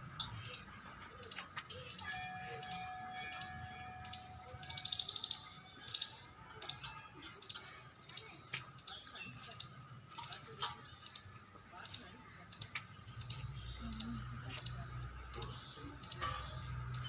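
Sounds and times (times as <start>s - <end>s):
small birds chirping: 0.0s - 17.0s
rattling bird trill: 0.1s - 17.0s.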